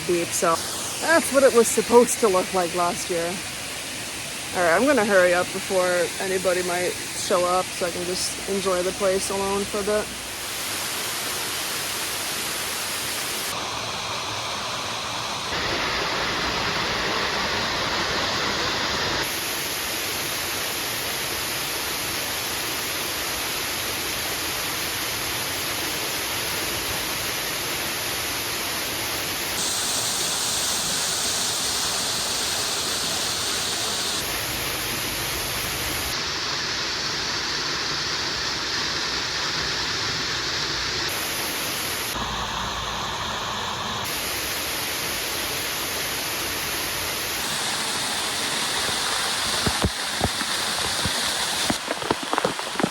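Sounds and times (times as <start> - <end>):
waterfall rushing into pool: 0.0 - 52.9.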